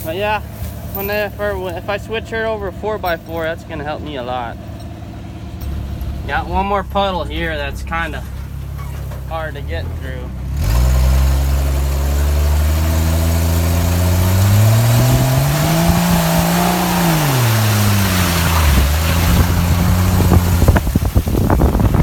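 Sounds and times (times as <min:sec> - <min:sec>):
tyres through mud: 0:00.0 - 0:22.0
engine revving: 0:04.1 - 0:22.0.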